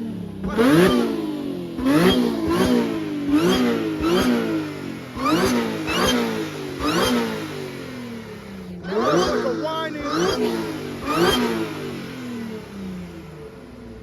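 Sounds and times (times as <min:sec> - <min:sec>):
car engine revving: 0:00.0 - 0:14.0
supercharger whine: 0:00.0 - 0:14.0.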